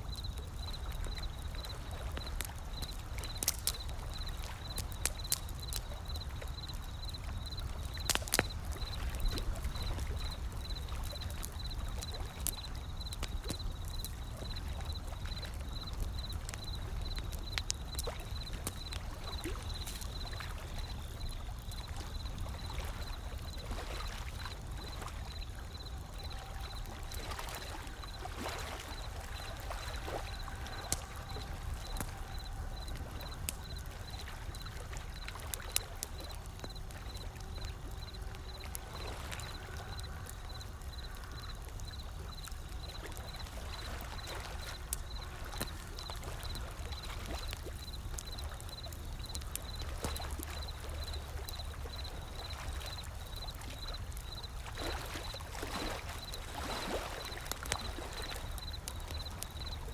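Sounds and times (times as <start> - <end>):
wood fire crackling: 0.0 - 55.5, 56.1 - 59.9.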